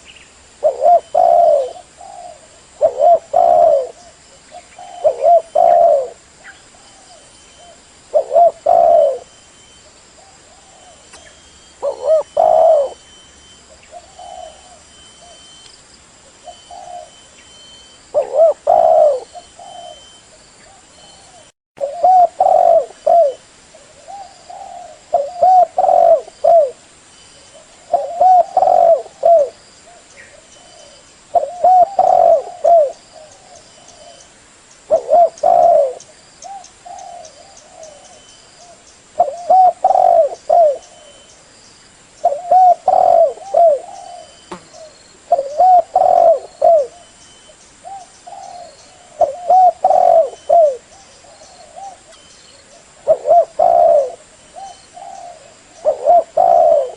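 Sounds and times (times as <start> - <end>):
dove cooing: 0.6 - 9.4, 10.2 - 15.5, 16.3 - 26.8, 27.5 - 34.3, 34.9 - 41.4, 42.2 - 56.9.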